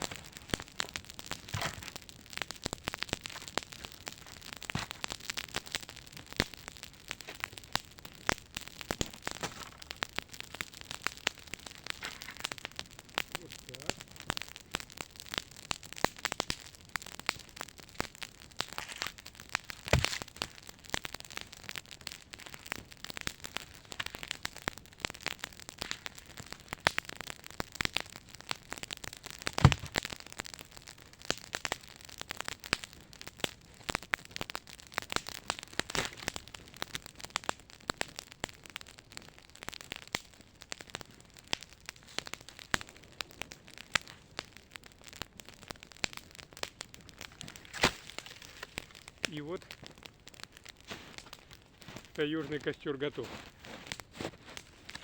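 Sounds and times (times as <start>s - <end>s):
loud wood cracks: 0.0s - 38.6s, 39.4s - 52.3s
campfire crackling and snapping: 0.0s - 55.0s.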